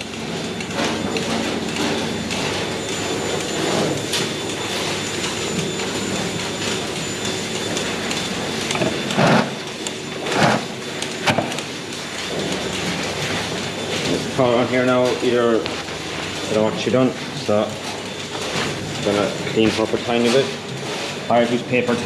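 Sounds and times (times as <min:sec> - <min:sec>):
milking machinery hiss and hum: 0:00.0 - 0:22.0.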